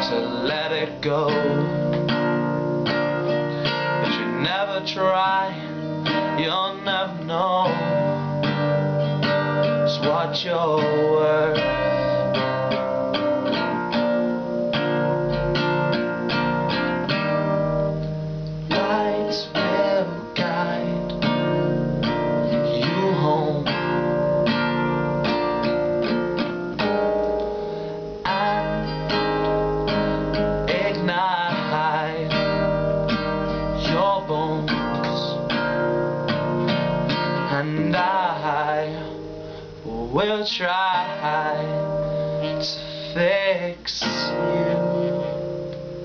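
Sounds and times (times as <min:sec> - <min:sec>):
classical guitar strumming chords: 0:00.0 - 0:46.0.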